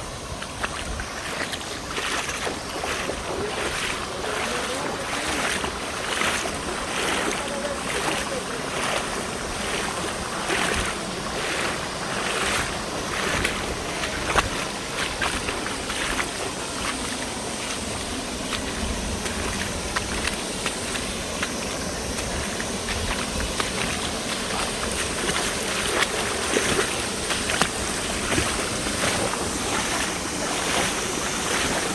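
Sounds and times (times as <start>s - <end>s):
river water rushing over rocks: 0.0s - 31.9s.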